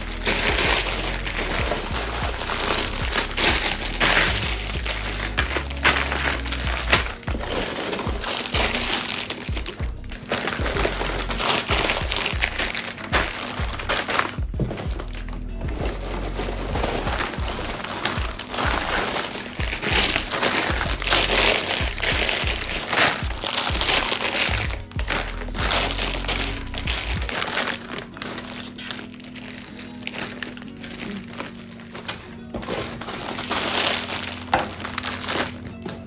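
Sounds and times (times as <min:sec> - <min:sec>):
background music: 0:00.0 - 0:36.0
packaging crinkling and rustling: 0:00.0 - 0:36.0.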